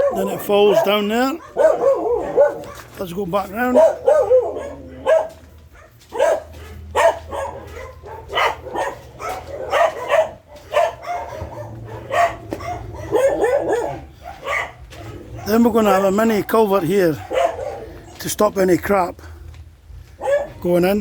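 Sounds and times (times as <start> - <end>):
dogs barking: 0.0 - 19.1, 20.0 - 21.0.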